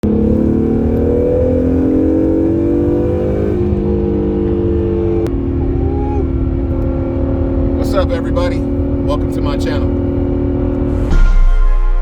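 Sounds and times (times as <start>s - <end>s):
car engine running: 0.0s - 11.2s.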